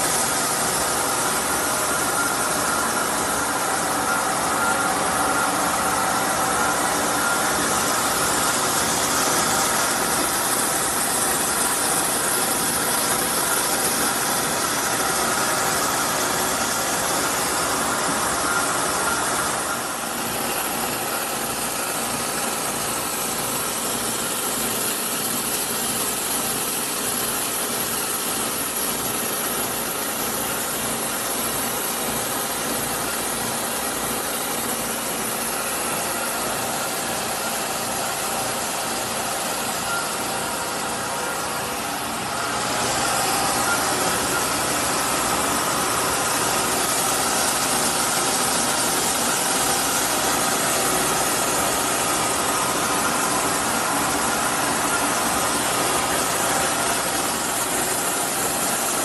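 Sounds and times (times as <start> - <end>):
milling machine cutting metal: 0.0 - 59.0.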